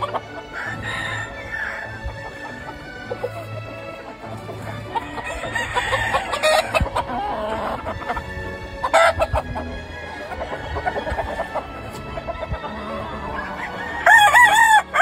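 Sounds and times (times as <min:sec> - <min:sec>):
chickens clucking: 0:00.0 - 0:15.0
roosters crowing: 0:00.0 - 0:15.0.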